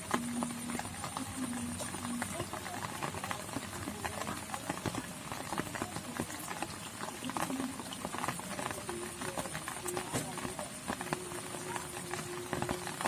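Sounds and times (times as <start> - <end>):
wet patter and clicking: 0.0 - 13.0.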